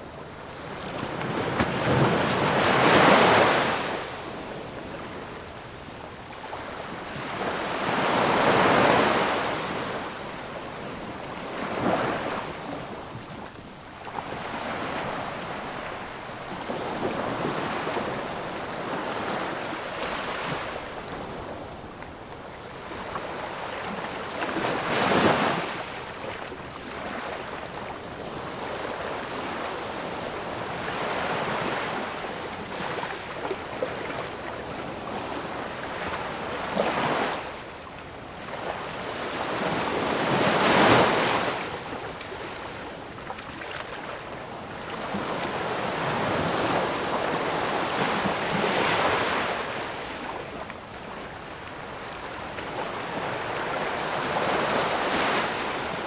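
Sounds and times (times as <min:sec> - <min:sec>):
surf washing on shore: 0:00.2 - 0:56.0.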